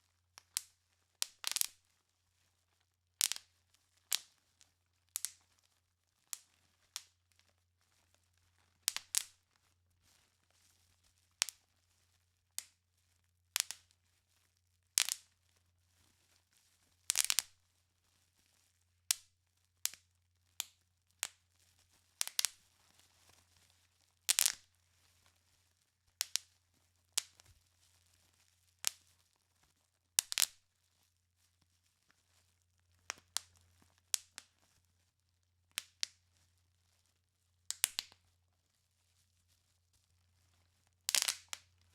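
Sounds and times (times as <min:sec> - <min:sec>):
bubble wrap popping: 0:00.3 - 0:12.8, 0:13.4 - 0:41.9.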